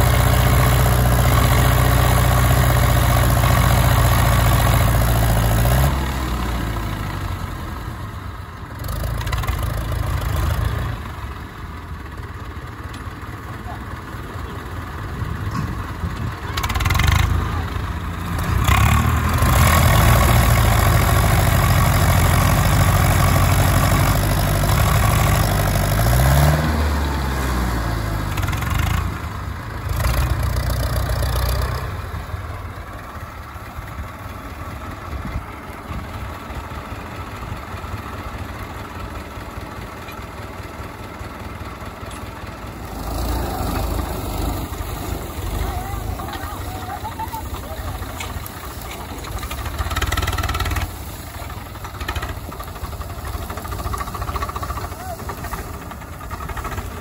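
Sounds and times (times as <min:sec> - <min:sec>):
tractor diesel engines under load: 0:00.0 - 0:57.0.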